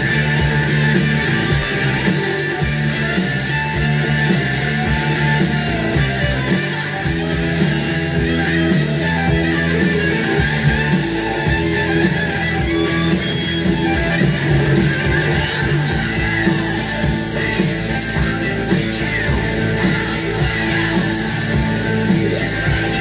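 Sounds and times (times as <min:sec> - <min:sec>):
loud rock music with guitar: 0:00.0 - 0:23.0.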